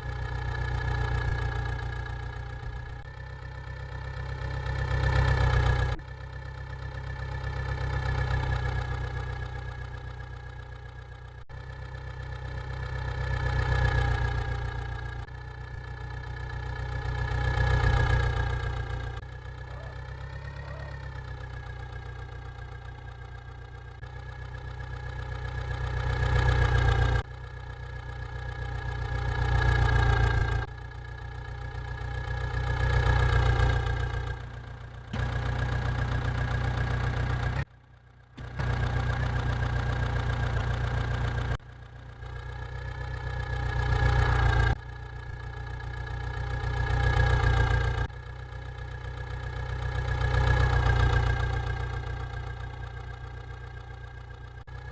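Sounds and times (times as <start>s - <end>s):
engine droning and rumbling: 0.0s - 54.9s.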